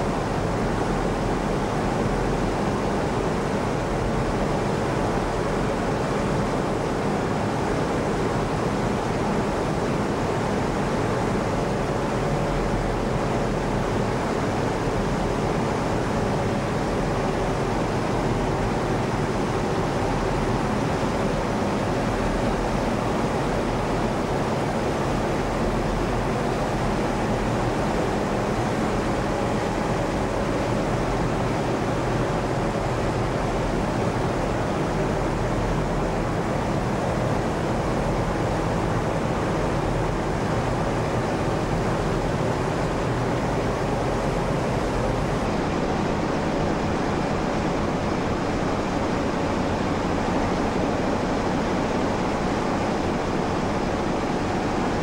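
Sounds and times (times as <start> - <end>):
engine room machinery hiss: 0.0 - 55.0.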